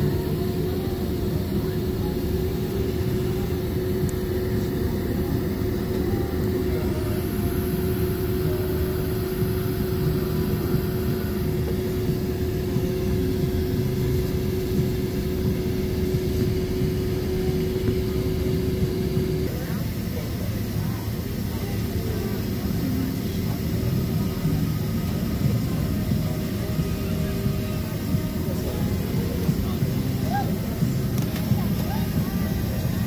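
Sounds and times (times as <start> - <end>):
aircraft cabin rumble: 0.0 - 33.0
jet engines idling hum: 0.0 - 33.0.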